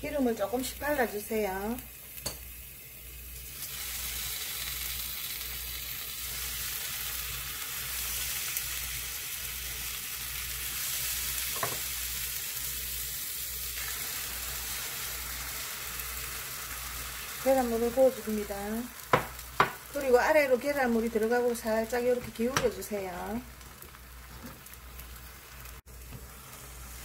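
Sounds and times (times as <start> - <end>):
oil sizzling in a pan: 0.0 - 27.0.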